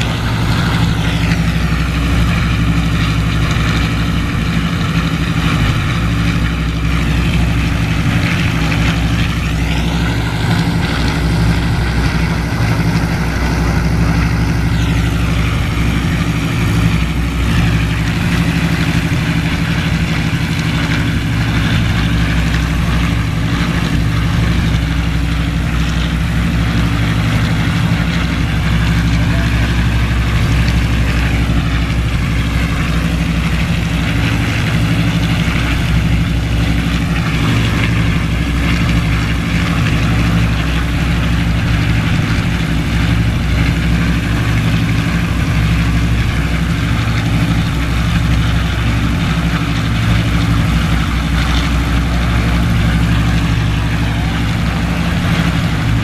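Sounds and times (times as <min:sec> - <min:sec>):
higher whine: 0:00.0 - 0:56.0
radial piston engines droning: 0:00.0 - 0:56.0.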